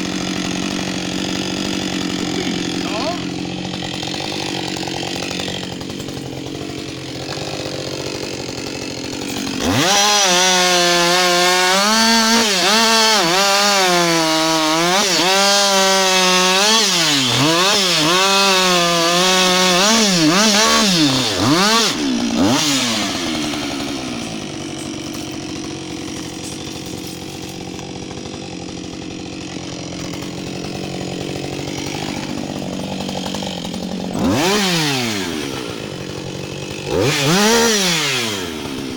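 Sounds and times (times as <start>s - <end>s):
chainsaw idling and cutting wood: 0.0s - 38.9s.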